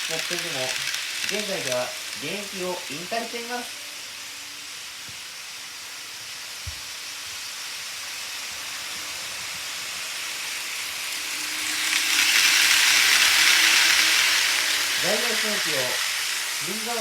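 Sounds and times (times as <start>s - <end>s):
model train wheels hissing: 0.0s - 17.0s.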